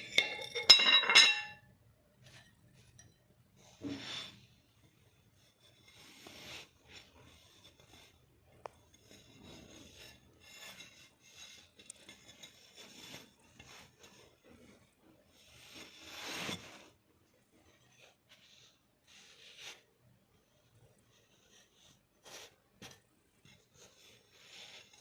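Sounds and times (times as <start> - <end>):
rubbing and scraping handling noises: 0.0 - 25.0.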